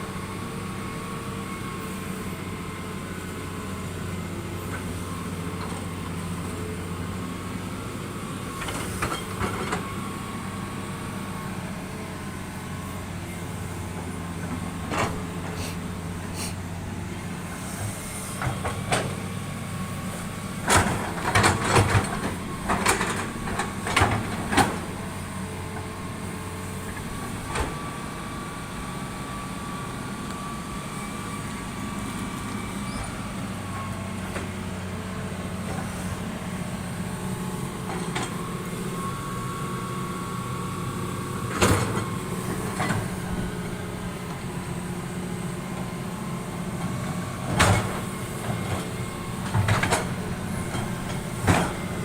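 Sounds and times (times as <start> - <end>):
diesel construction machinery running: 0.0 - 52.0.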